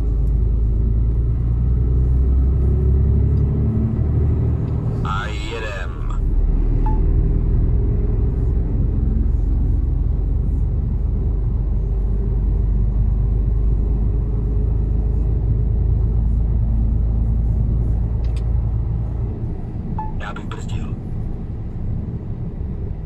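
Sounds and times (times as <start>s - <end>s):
road noise inside cab: 0.0s - 23.0s
truck diesel engine droning: 0.0s - 23.0s.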